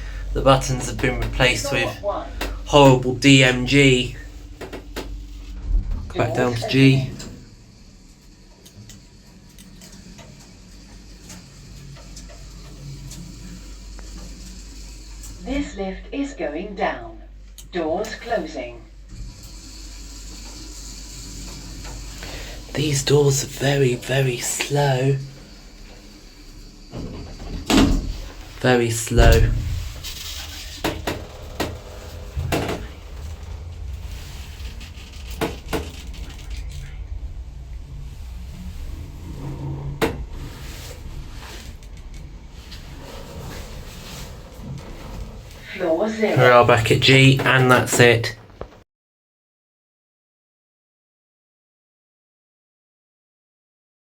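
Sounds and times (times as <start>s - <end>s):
lift humming: 0.0s - 48.5s.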